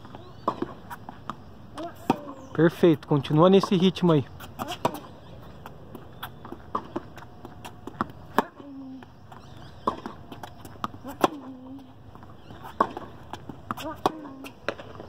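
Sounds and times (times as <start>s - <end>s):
shoe squeaks: 0.0s - 2.6s, 4.2s - 14.7s
tennis ball bouncing: 0.0s - 15.0s.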